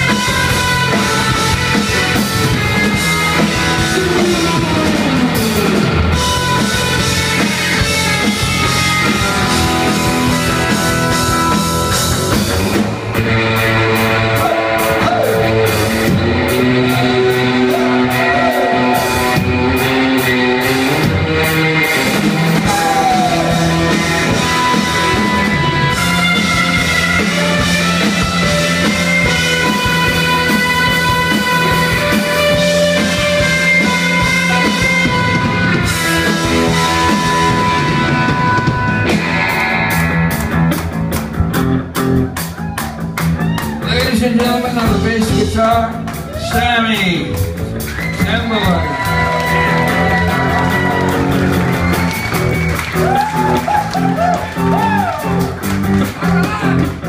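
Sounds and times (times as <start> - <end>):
bass guitar: 0.0 - 57.0
drum kit: 0.0 - 57.0
electric guitar lead: 0.0 - 57.0.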